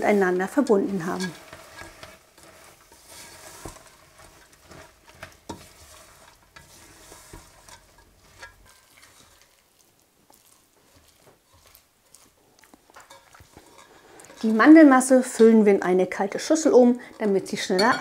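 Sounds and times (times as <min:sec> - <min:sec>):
spatula scraping a pot: 0:00.0 - 0:15.8, 0:16.4 - 0:18.0
mixture sizzling: 0:00.0 - 0:18.0.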